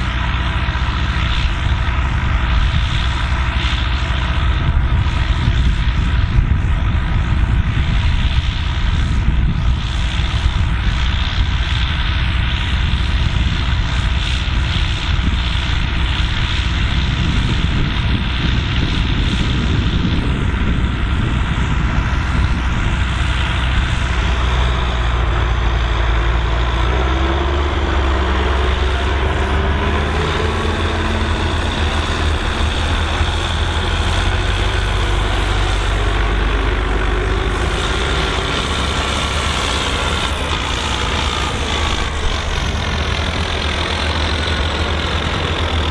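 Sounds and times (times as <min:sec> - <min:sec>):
rising whine: 0:00.0 - 0:45.9
tractor diesel engine under load: 0:00.0 - 0:45.9.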